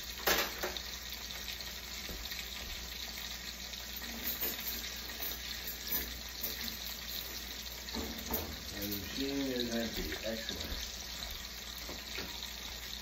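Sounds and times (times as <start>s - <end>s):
steaks sizzling in a frying pan: 0.0s - 13.0s.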